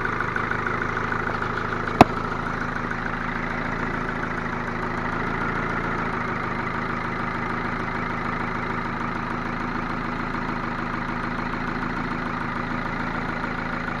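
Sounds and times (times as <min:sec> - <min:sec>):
car engine idling with knock: 0:00.0 - 0:14.0.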